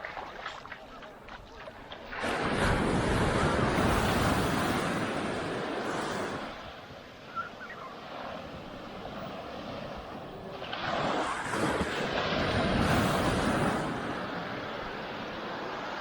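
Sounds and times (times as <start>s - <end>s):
surf wave breaking on beach: 1.5s - 16.0s.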